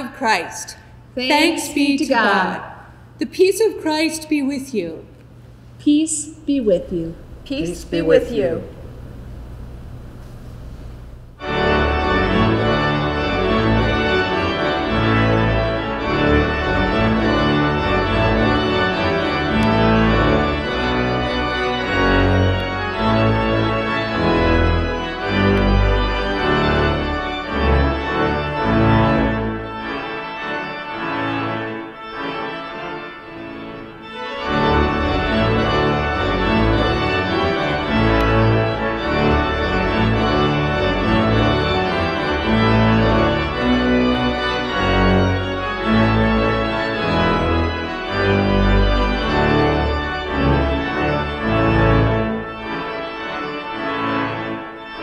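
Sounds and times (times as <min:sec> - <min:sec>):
church organ music: 0:00.0 - 0:55.0.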